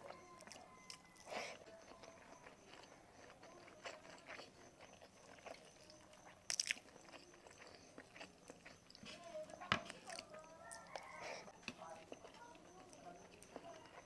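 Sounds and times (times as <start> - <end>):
quiet chewing: 0.0 - 14.0.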